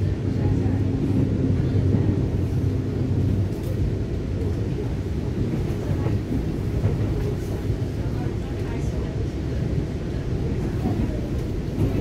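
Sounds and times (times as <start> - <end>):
train interior low rumble: 0.0 - 12.0.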